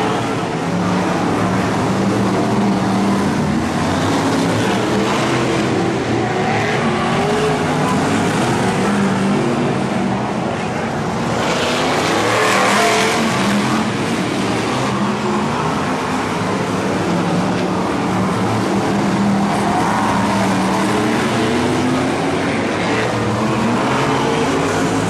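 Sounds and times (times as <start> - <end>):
stock car engines racing: 0.0 - 25.0.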